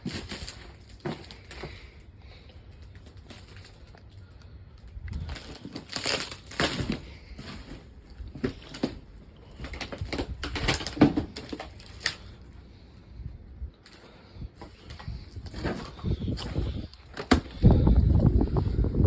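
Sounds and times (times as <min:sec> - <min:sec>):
crunching and knocking: 0:00.0 - 0:02.1, 0:02.7 - 0:12.4, 0:13.8 - 0:18.0.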